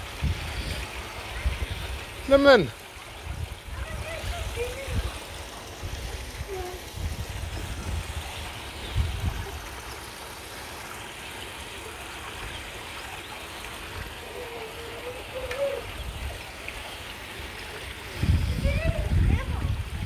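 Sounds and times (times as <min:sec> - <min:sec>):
water trickling and gurgling: 0:00.0 - 0:20.0.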